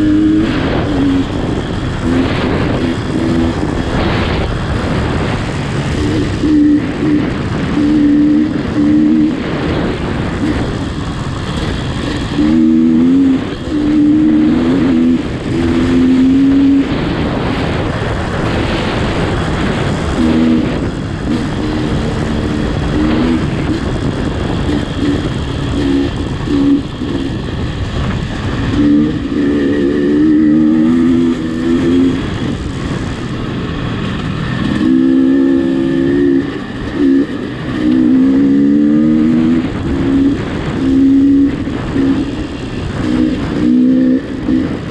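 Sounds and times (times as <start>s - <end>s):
road and wind noise: 0.0s - 44.9s
vehicle engine running: 0.0s - 44.9s.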